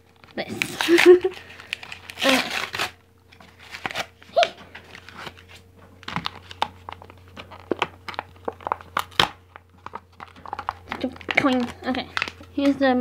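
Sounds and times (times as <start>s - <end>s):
faint steady hum: 0.0s - 13.0s
plastic packaging crinkling: 0.0s - 13.0s.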